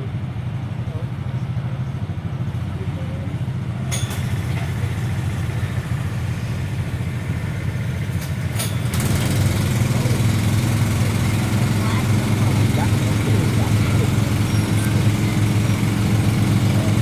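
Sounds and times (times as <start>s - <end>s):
go-kart engines idling: 0.0s - 17.0s.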